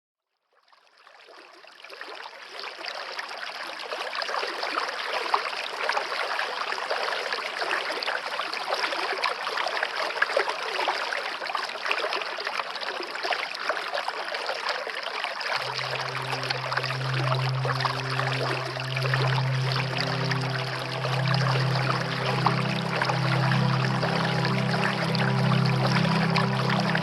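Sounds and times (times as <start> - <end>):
stream of water running: 0.9 - 27.0.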